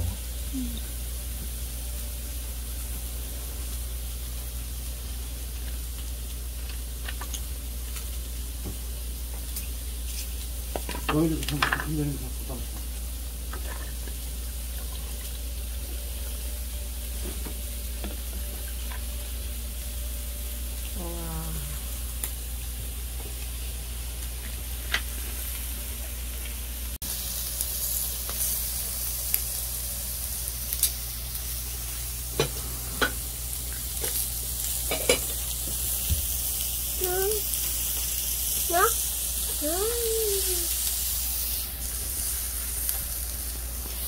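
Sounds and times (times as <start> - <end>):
sizzling hiss: 0.0 - 44.0.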